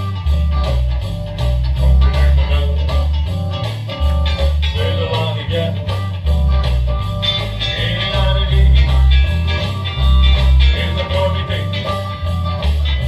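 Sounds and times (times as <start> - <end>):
rhythmic bass line: 0.0 - 13.0
song with guitar: 0.0 - 13.0.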